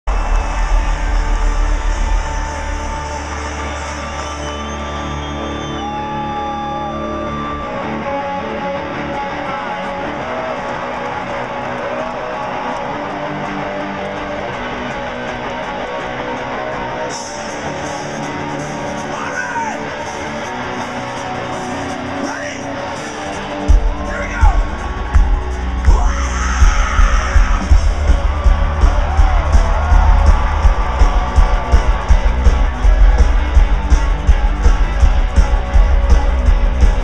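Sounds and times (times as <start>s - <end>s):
loud rock music with singing: 0.1s - 37.0s.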